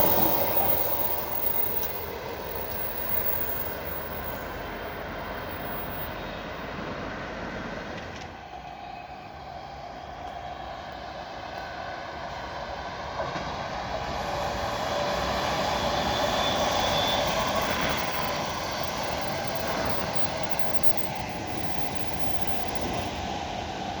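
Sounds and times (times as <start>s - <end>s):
electric train rumbling: 0.0s - 24.0s
faint train whine: 0.0s - 24.0s.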